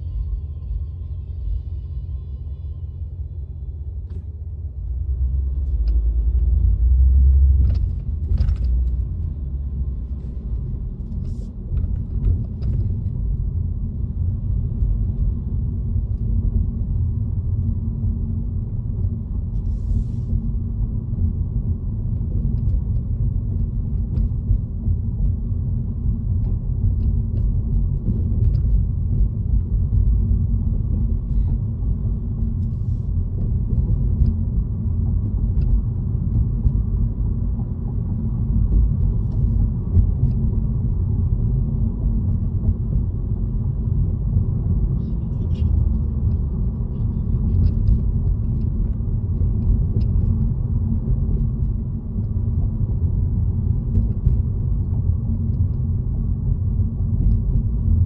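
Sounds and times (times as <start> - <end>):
car driving rumble from cabin: 0.0 - 58.0.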